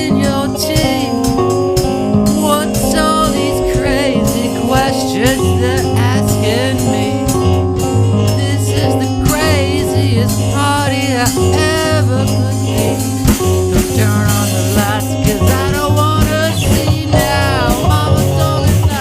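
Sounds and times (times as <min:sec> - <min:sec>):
rock band playing: 0:00.0 - 0:19.0
wavering lead line: 0:00.0 - 0:19.0.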